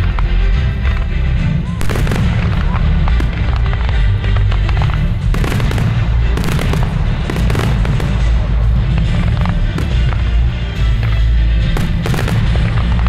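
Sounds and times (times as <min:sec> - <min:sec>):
firework bursts and crackles: 0:00.0 - 0:13.0.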